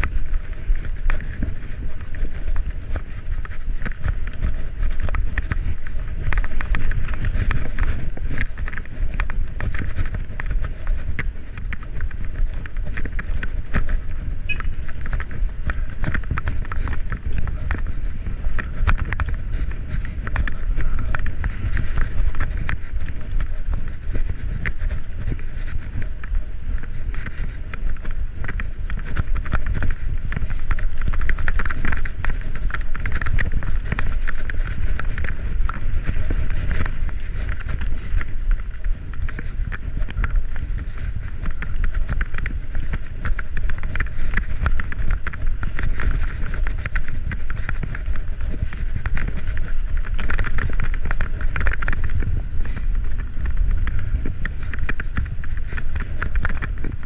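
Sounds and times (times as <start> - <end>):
road and tyre noise: 0.0 - 57.0
wind buffeting microphone: 0.0 - 57.0.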